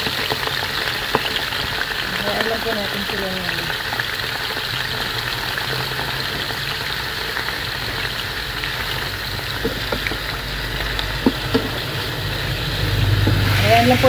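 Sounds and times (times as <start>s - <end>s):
meat sizzling in oil: 0.0s - 14.0s
sharp crackles of frying: 0.0s - 14.0s.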